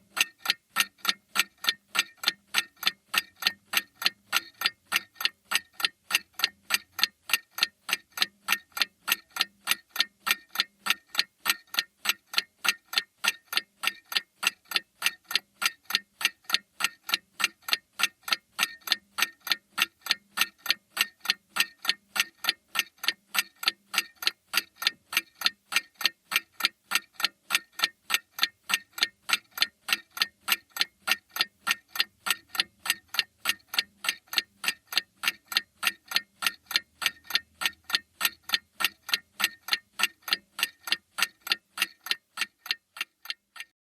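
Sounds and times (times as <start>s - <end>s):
mantel clock ticking: 0.0s - 43.8s.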